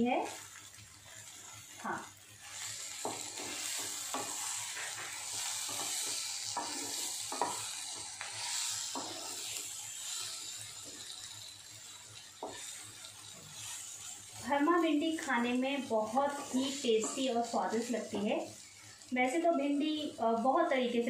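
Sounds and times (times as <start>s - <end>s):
okra sizzling in hot oil: 0.0s - 21.0s
spatula scraping the pan: 0.6s - 19.1s.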